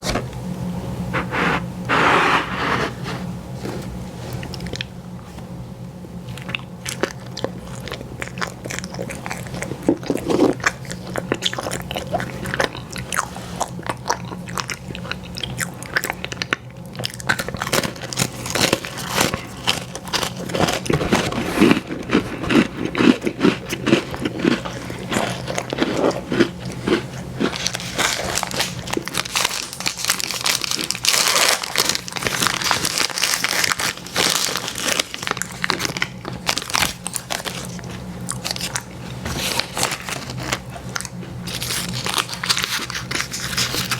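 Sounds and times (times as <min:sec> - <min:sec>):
chewing ice cream sandwich: 0:04.2 - 0:43.9.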